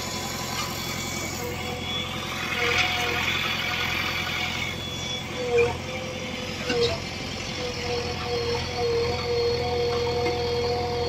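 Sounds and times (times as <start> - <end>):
pitch-bending whine: 0.0 - 11.0
thin engine whine: 0.0 - 11.0.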